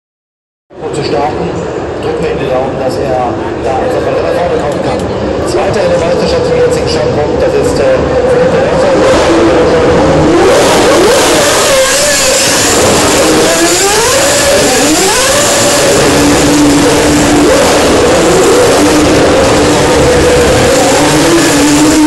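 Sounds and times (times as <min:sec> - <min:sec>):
race car engines revving: 0:00.8 - 0:22.0.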